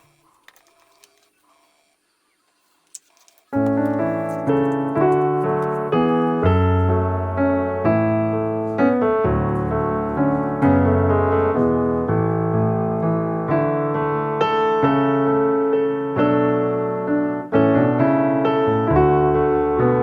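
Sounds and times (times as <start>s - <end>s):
slow piano music: 3.6s - 20.0s.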